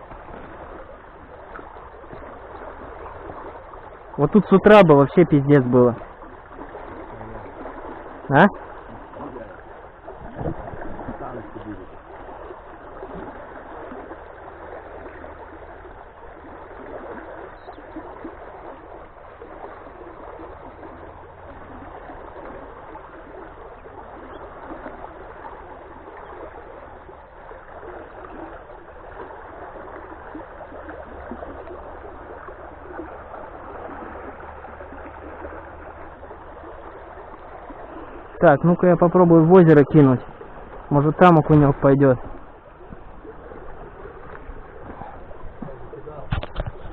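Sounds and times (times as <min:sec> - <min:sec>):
water rushing out of a pipe: 0:00.0 - 0:46.9.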